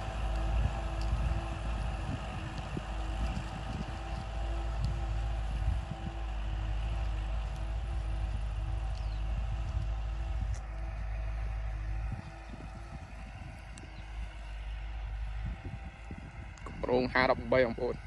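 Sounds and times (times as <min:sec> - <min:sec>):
low wind rumble on microphone: 0:00.0 - 0:18.0
tractor diesel engine running: 0:00.0 - 0:18.0.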